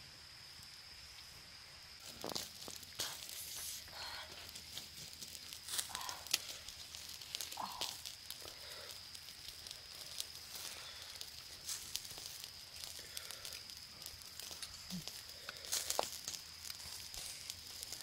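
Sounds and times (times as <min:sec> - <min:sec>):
clicks crackles and rustles: 0:02.0 - 0:18.0.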